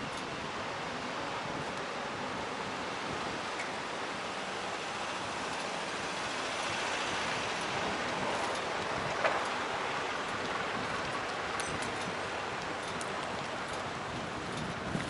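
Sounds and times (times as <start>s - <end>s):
rushing wind and road noise: 0.0s - 15.0s.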